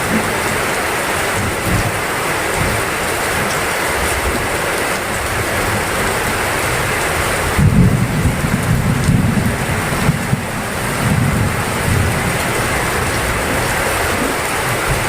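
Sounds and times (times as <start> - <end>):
heavy rain: 0.0 - 15.0
thunder rumbling: 1.3 - 15.0.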